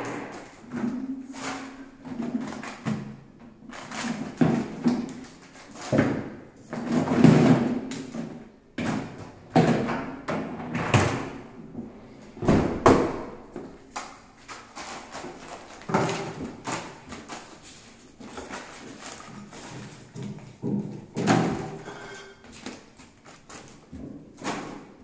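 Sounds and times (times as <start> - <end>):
items clattering: 0.0 - 25.0.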